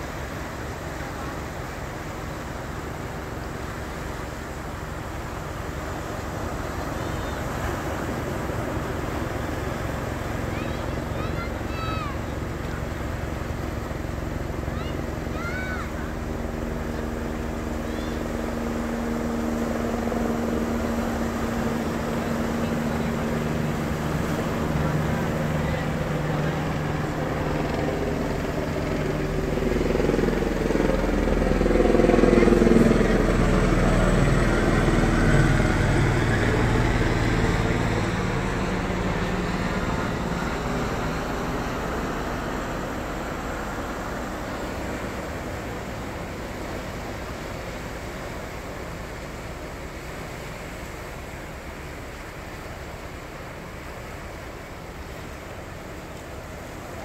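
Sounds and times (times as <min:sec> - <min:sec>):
ocean surf on rocks: 0:00.0 - 0:57.0
motor engine running: 0:03.0 - 0:48.8
higher engine note: 0:03.9 - 0:52.3.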